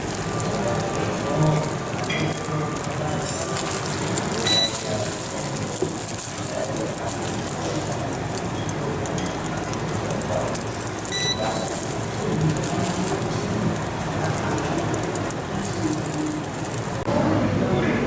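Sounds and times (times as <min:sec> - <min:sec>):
omelette sizzling in frying pan: 0:00.0 - 0:17.1.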